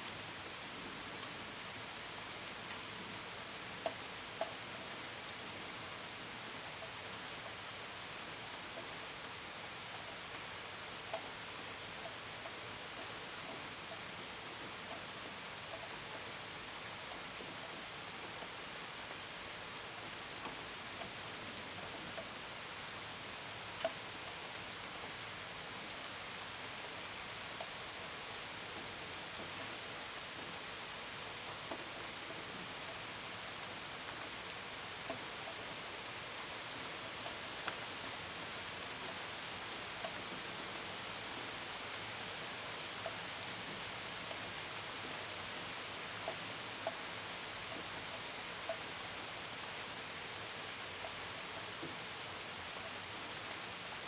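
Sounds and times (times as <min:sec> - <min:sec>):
gentle rain: 0:00.0 - 0:54.0.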